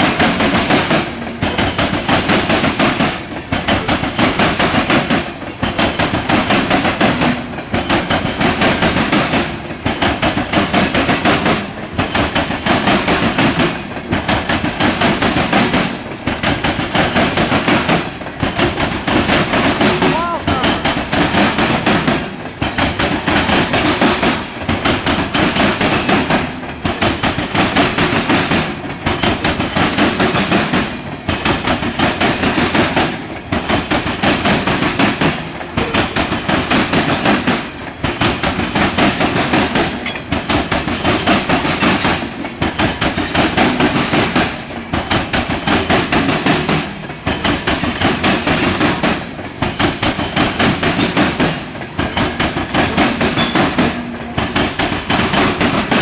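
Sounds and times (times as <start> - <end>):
freight train wheels clacking: 0.0 - 56.0.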